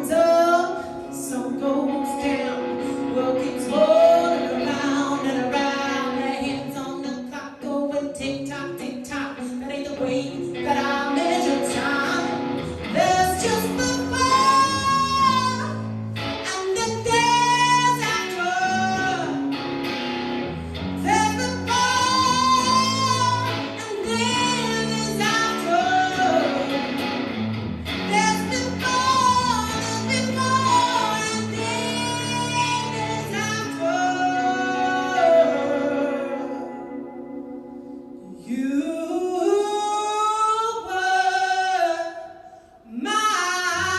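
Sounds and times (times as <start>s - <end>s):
high voice singing: 0.0s - 19.6s, 21.0s - 27.0s, 27.9s - 43.9s.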